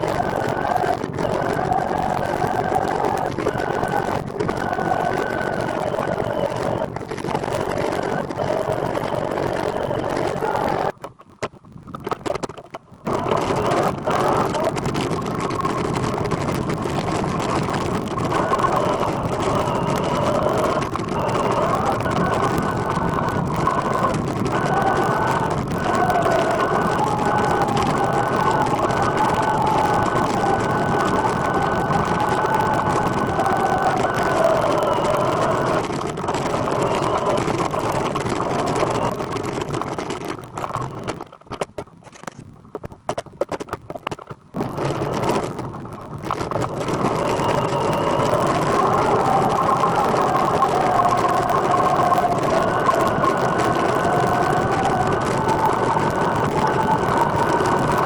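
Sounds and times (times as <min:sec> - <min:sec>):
high wavering whine: 0:00.0 - 0:11.0, 0:13.0 - 0:41.2, 0:44.6 - 0:58.0
trike riding rumble: 0:00.0 - 0:58.0.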